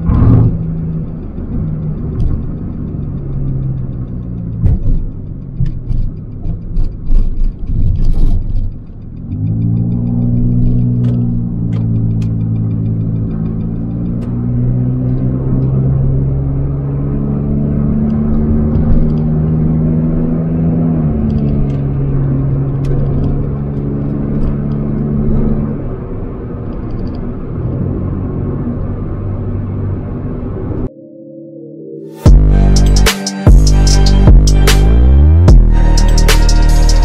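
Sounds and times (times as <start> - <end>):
car engine hum: 0.0 - 30.9, 32.2 - 37.0
road rumble: 0.0 - 30.9, 32.2 - 37.0.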